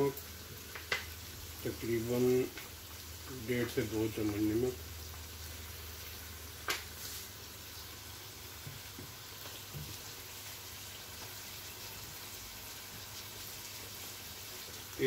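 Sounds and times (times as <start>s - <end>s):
chicken frying low sizzle: 0.0s - 15.0s.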